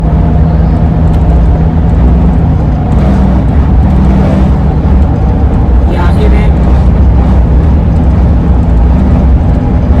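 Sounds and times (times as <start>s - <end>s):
constant low hum: 0.0s - 10.0s
road and wind rumble: 0.0s - 10.0s.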